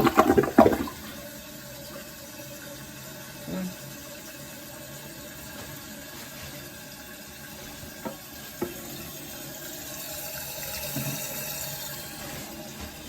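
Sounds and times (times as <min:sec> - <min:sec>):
water filling toilet tank: 0:00.0 - 0:13.0.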